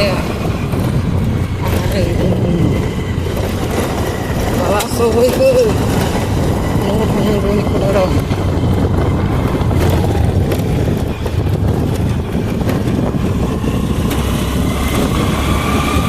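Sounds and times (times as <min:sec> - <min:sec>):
road vehicle rumbling: 0:00.0 - 0:16.0.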